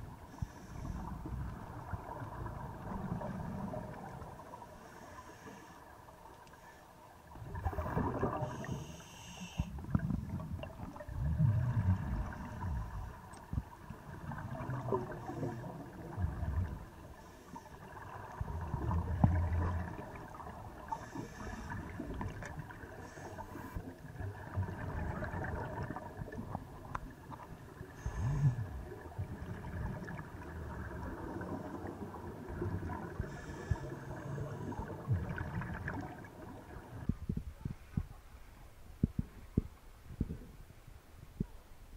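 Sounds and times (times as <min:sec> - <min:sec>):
underwater exhaled bubbles: 0:00.0 - 0:05.5, 0:07.2 - 0:38.1
faint steady hiss: 0:00.0 - 0:41.9.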